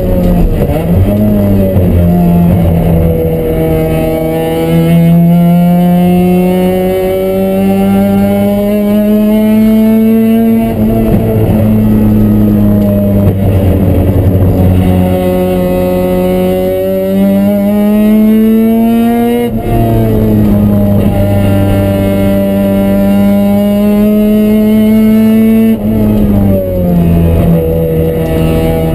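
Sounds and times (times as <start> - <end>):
rotary engine at full throttle: 0.0 - 28.9.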